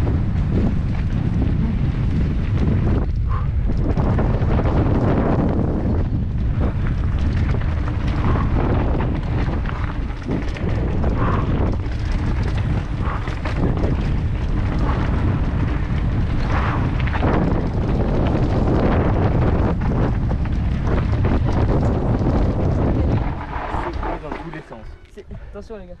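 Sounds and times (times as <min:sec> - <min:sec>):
bike rattling over rough trail: 0:00.0 - 0:26.0
wind buffeting microphone: 0:00.0 - 0:26.0.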